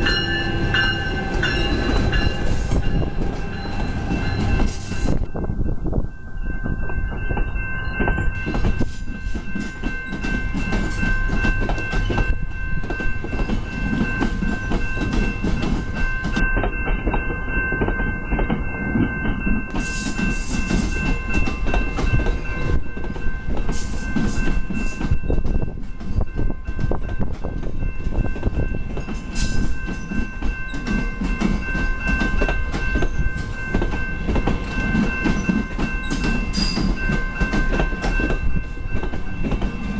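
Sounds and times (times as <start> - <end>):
train wheels clacking: 0.0 - 5.5, 6.7 - 39.9
train whine: 0.0 - 39.9.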